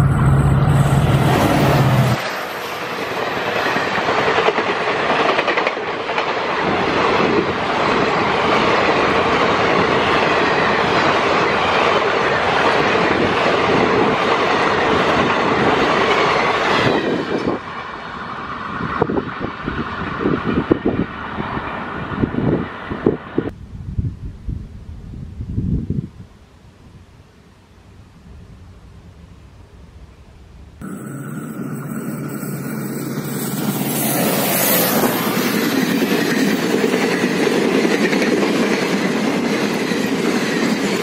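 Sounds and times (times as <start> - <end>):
train passing at speed: 0.0 - 23.6, 28.2 - 41.0.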